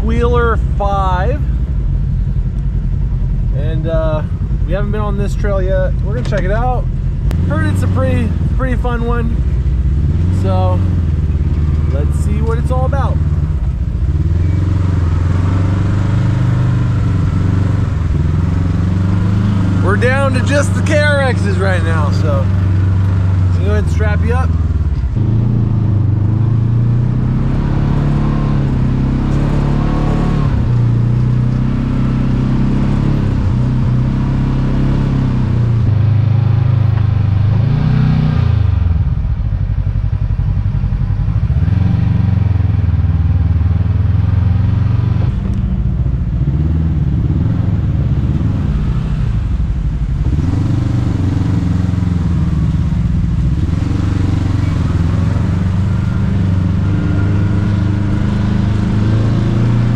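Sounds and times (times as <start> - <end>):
engine revving: 3.5 - 39.6, 41.2 - 59.9.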